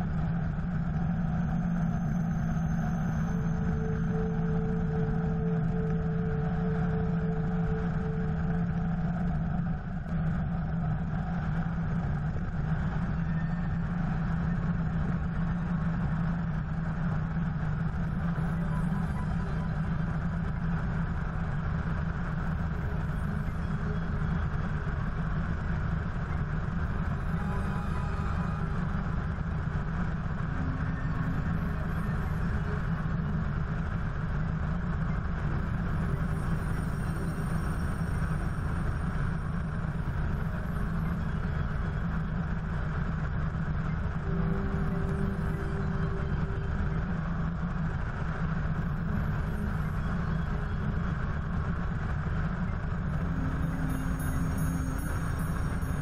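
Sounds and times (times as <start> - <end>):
helicopter rotor and turbine drone: 0.0 - 56.0.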